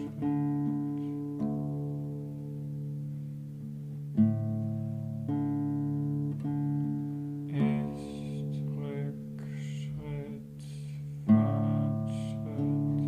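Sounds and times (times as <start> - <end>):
classical guitar plucking: 0.0 - 13.0.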